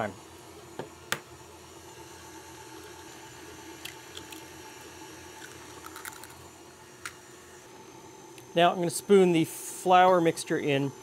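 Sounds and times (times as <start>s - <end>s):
stand mixer running: 0.0s - 11.0s.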